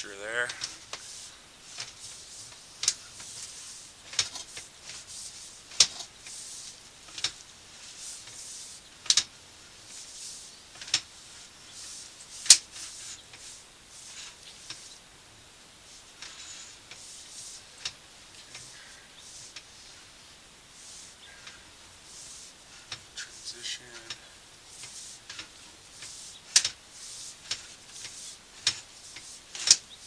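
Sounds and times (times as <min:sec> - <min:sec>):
faint hiss: 0:00.0 - 0:30.0.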